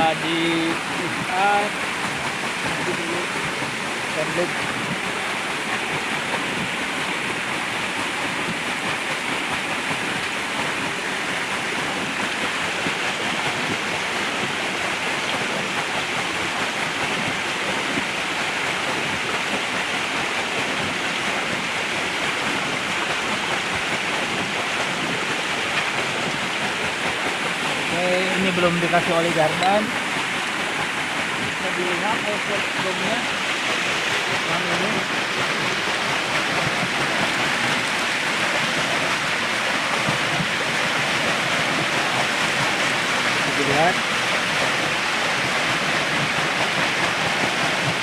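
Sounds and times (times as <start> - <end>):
flowing water rushing: 0.0 - 48.0.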